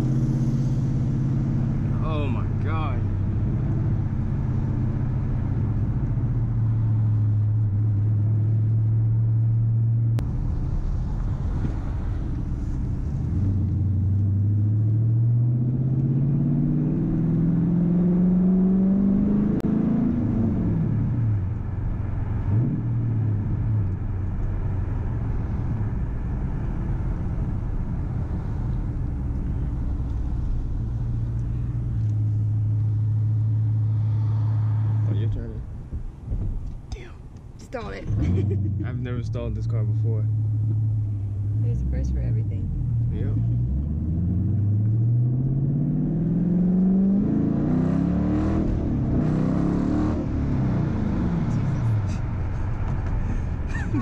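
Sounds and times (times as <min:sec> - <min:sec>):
car engine revving: 0:00.0 - 0:36.8, 0:37.5 - 0:54.0.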